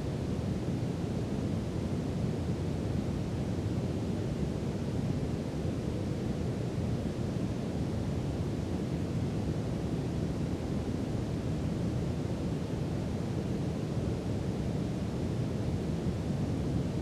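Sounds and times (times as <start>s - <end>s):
brown noise hiss: 0.0s - 17.0s.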